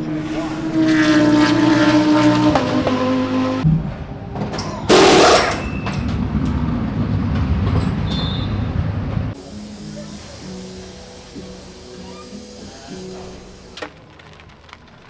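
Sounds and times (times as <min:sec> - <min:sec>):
car rushing past: 0:00.0 - 0:14.2
race car engine: 0:00.0 - 0:15.0.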